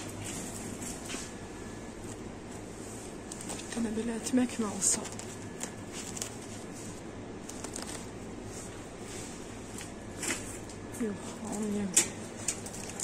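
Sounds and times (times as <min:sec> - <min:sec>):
steady low hum: 0:00.0 - 0:13.0
faint clicks and rustles: 0:02.0 - 0:13.0.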